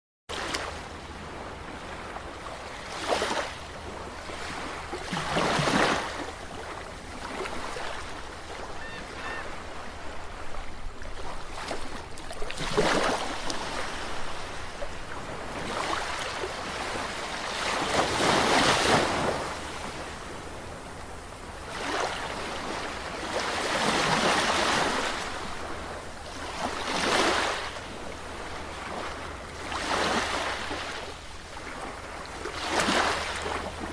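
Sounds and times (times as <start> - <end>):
waves washing and breaking: 0.3 - 33.9.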